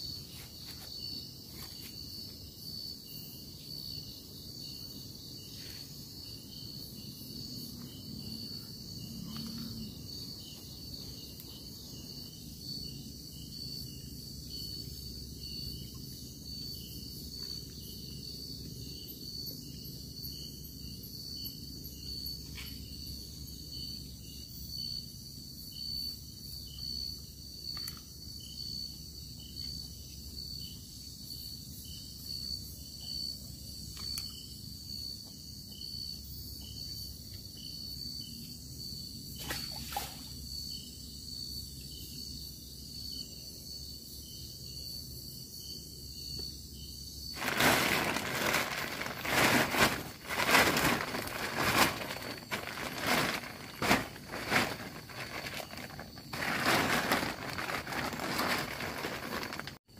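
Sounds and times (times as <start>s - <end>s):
pulsing insect trill: 0.0s - 59.7s
crickets trilling: 0.0s - 59.9s.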